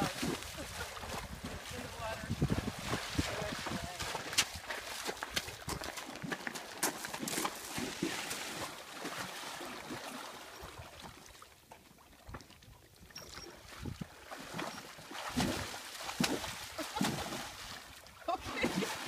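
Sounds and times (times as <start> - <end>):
horse hooves splashing water: 0.0 - 19.0.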